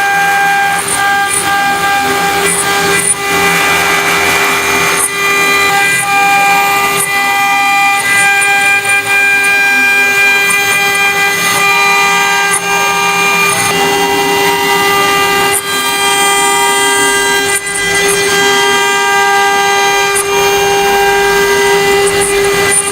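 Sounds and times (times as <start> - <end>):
router spindle whining: 0.0 - 22.9.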